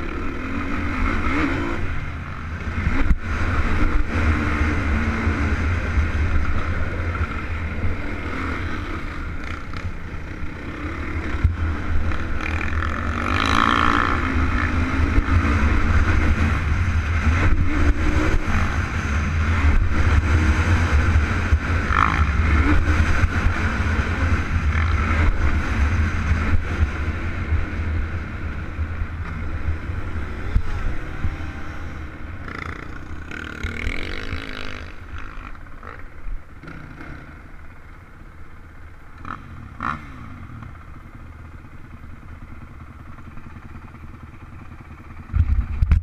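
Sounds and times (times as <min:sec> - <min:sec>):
atv engine revving: 0:00.0 - 0:38.0, 0:38.9 - 0:46.0.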